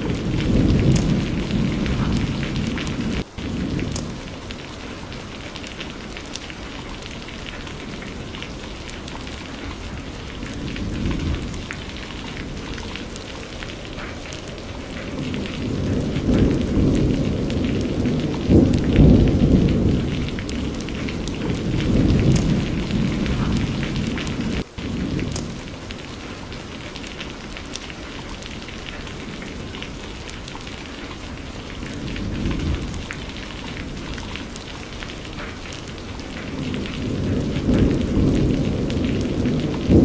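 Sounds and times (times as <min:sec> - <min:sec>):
low rumble of thunder: 0:00.0 - 0:40.0
steady rain with ticking drops: 0:00.0 - 0:40.0.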